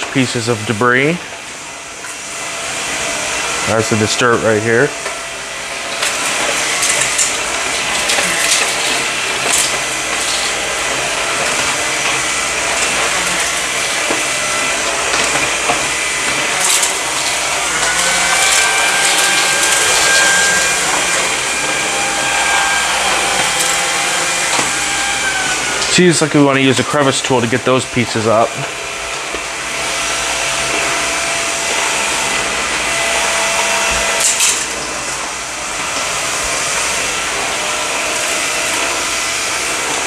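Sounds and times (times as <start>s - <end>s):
steady high whine: 0.0s - 40.0s
vacuum cleaner suction: 0.0s - 40.0s.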